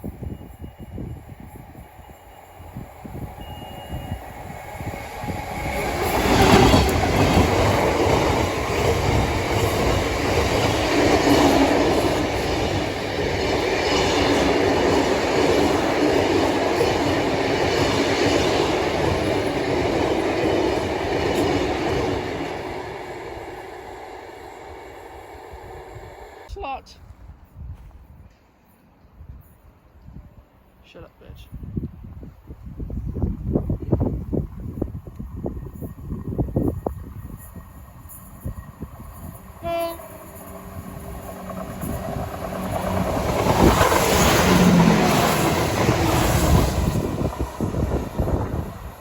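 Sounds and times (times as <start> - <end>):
train wheels on track: 0.0 - 26.5, 31.7 - 49.0.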